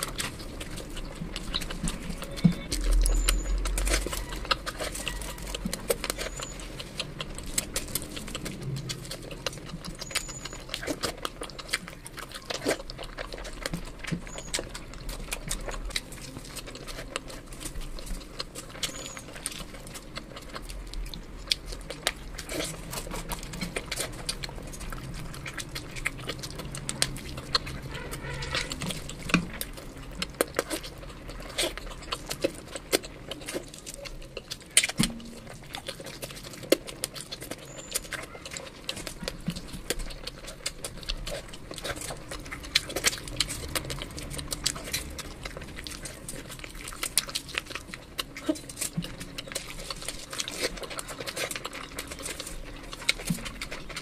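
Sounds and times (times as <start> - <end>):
fingers squishing through food: 0.0 - 54.0
wet chewing and lip-smacking: 0.0 - 54.0.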